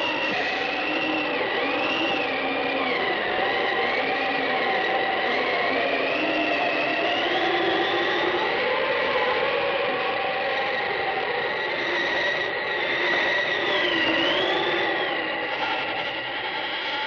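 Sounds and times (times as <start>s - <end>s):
eerie droning tones: 0.0s - 17.0s.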